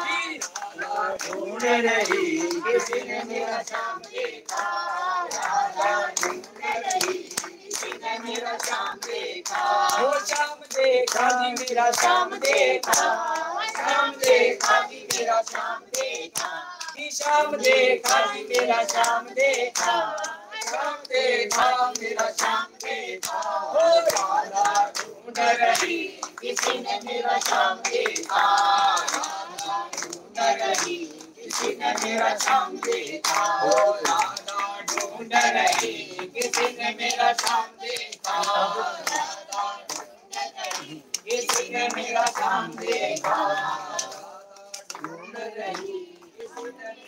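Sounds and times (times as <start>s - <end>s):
group singing a chant: 0.0s - 47.0s
rhythmic hand clapping: 0.0s - 47.0s.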